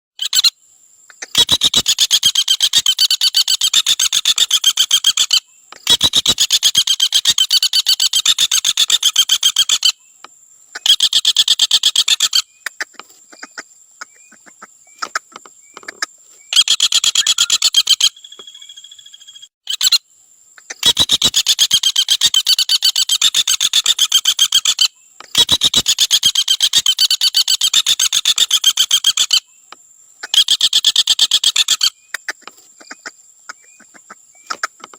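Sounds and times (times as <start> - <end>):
woodpecker rattling trill: 1.1 - 10.1, 10.8 - 20.0, 20.6 - 29.5, 30.3 - 34.9.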